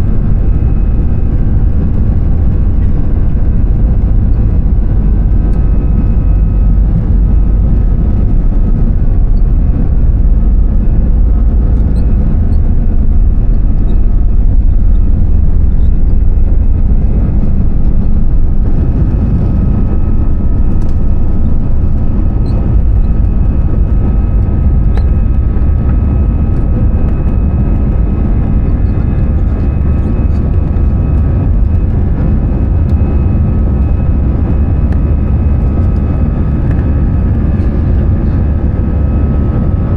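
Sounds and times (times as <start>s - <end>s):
aircraft cabin low rumble: 0.0s - 39.9s.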